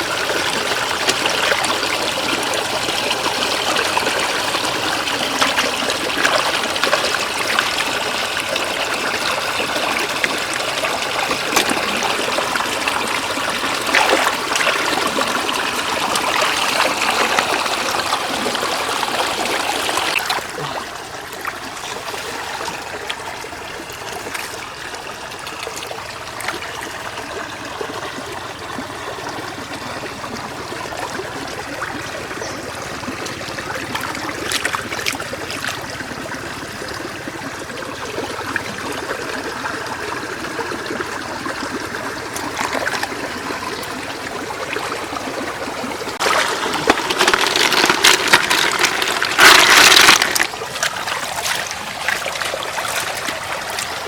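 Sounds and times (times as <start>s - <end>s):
floodwater running over road: 0.0s - 54.0s
small water splashes: 0.0s - 54.0s.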